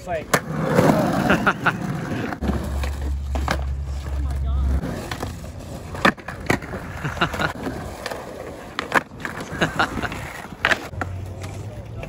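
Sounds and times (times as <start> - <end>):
skateboard wheels rolling: 0.0 - 12.0
skateboards clacking on concrete: 0.0 - 12.0.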